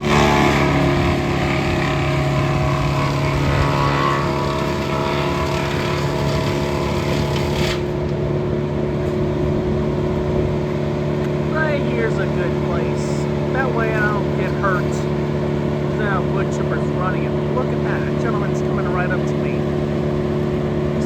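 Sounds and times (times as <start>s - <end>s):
wood chipper engine drone: 0.0s - 21.0s.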